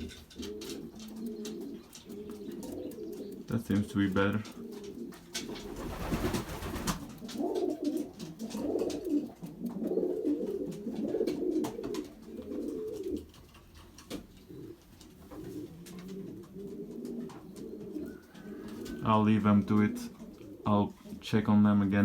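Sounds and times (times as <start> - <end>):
pigeons cooing: 0.0 - 21.6.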